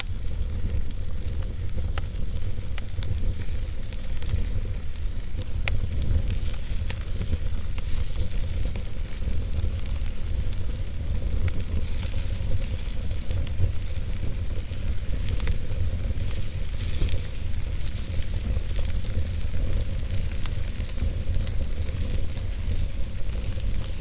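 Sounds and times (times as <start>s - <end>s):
steady low rumble of fire: 0.0s - 24.0s
wood fire pops and crackles: 0.0s - 24.0s.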